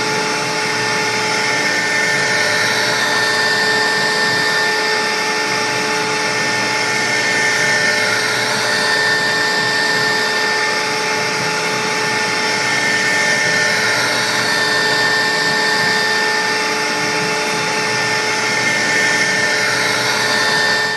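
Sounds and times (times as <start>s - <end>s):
router spindle whining: 0.0s - 20.9s.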